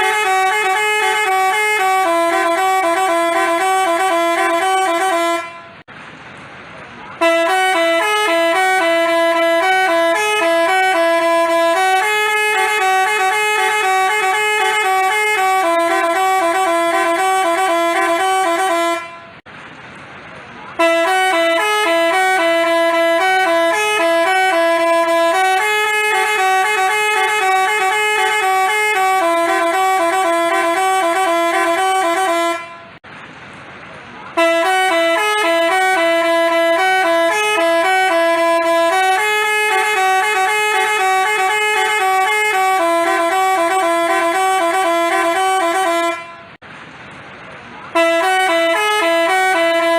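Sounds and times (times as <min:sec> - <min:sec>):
multi-tone bus horn tune: 0:00.0 - 0:05.9, 0:07.0 - 0:19.5, 0:20.7 - 0:33.0, 0:34.3 - 0:46.6, 0:47.9 - 0:49.9.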